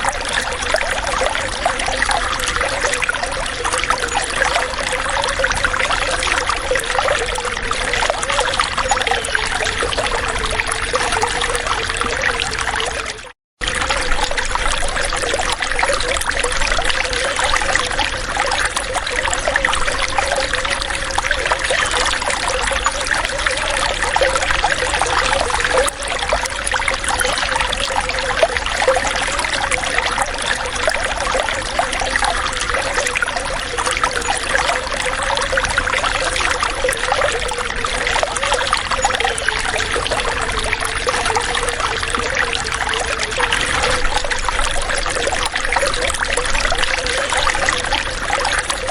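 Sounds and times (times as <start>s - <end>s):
water trickling and bubbling: 0.0s - 48.9s.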